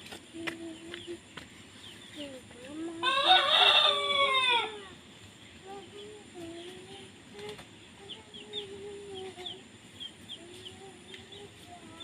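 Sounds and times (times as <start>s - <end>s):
small birds chirping: 0.2s - 3.0s, 4.8s - 12.0s
chickens calling: 0.8s - 12.0s.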